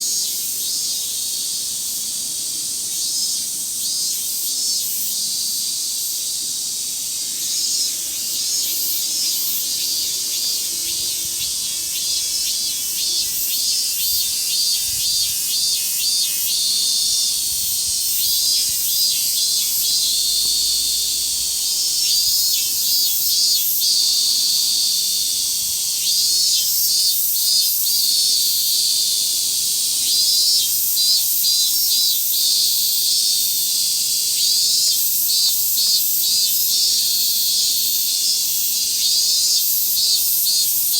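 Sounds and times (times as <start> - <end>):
cicadas buzzing: 0.0 - 40.9
pulsing cicada calls: 0.0 - 40.9.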